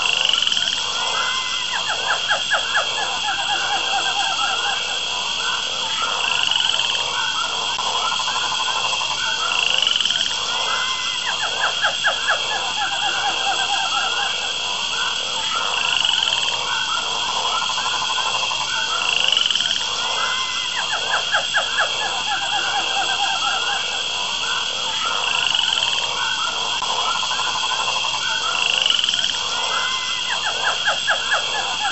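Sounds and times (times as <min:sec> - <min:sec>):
frogs croaking in chorus: 0:00.0 - 0:31.9
rapid pulsed croaks: 0:00.0 - 0:31.9
rising frog call: 0:00.0 - 0:31.9
steady high hum: 0:00.0 - 0:31.9.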